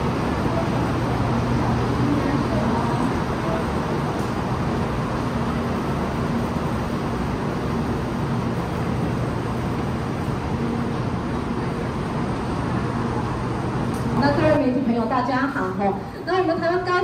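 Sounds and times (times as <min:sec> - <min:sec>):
rushing train station noise: 0:00.0 - 0:17.0.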